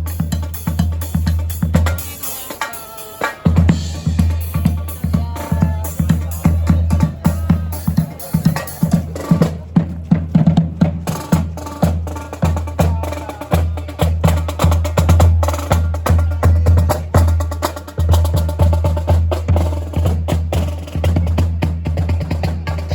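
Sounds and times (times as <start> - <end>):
brass marching band playing: 0.0 - 22.9
drums: 0.0 - 22.9.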